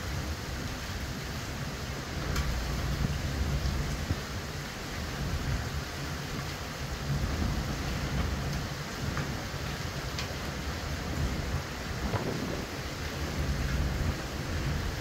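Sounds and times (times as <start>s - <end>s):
wind and rain rushing: 0.0s - 15.0s.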